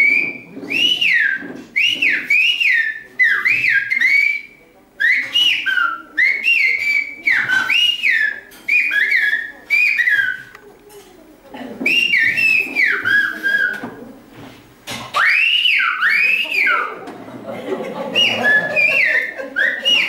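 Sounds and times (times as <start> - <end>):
loud finger whistling: 0.0 - 10.5, 11.9 - 13.8, 15.2 - 16.9, 18.2 - 20.0.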